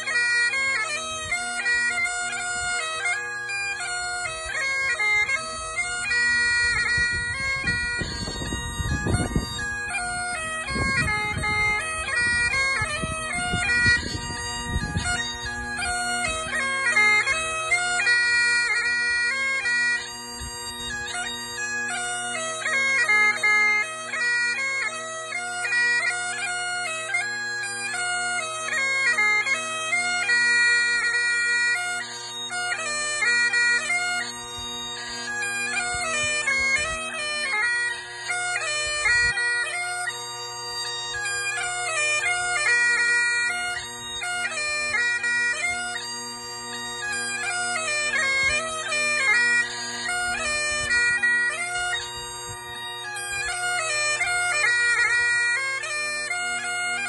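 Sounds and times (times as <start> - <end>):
bagpipe playing: 0.0 - 57.0.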